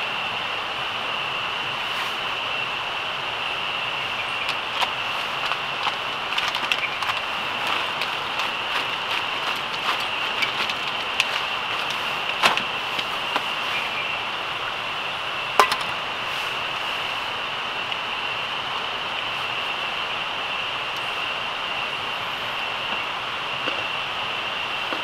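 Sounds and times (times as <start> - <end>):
night insects chorus: 0.0 - 25.0.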